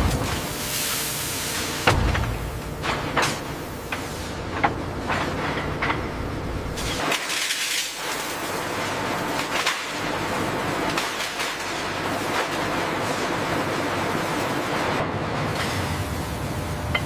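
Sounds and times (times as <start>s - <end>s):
industrial forge noise: 0.0s - 17.0s.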